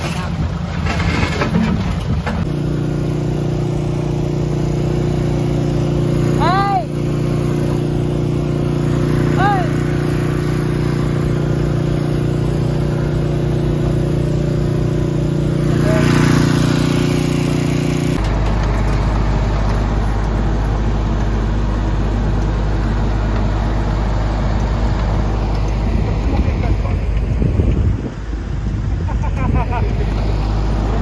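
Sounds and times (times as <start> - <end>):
heavy machine engines running: 0.0 - 31.0
low engine drone: 0.8 - 31.0.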